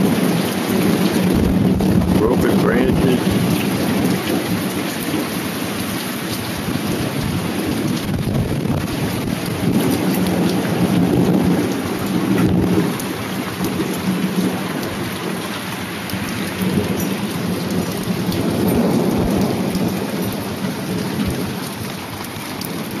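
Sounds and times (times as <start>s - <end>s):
hail pelting: 0.0s - 23.0s
heavy rain: 0.0s - 23.0s.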